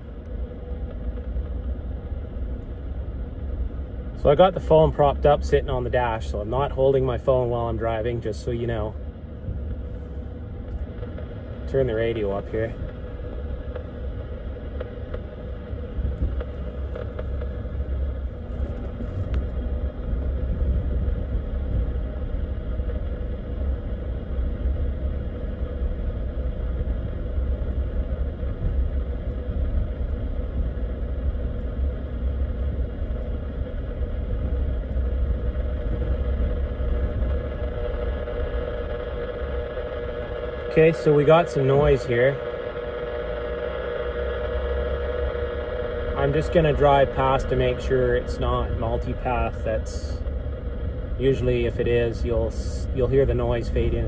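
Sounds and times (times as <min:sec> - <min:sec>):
radio speaker hiss and hum: 0:00.0 - 0:54.0
truck engine and tyres rumbling: 0:00.0 - 0:54.0.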